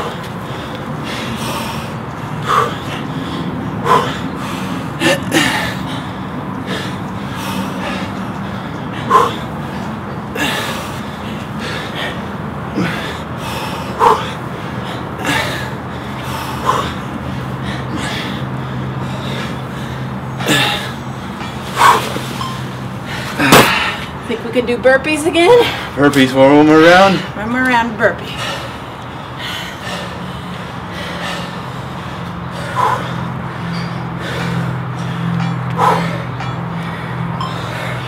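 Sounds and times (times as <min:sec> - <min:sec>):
people exhaling forcefully: 0:00.0 - 0:24.2, 0:28.2 - 0:38.0
steady low hum: 0:00.0 - 0:38.0.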